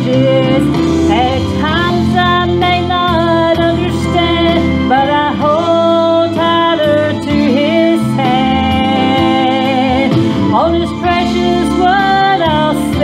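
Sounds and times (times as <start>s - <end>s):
gospel song: 0.0s - 13.0s.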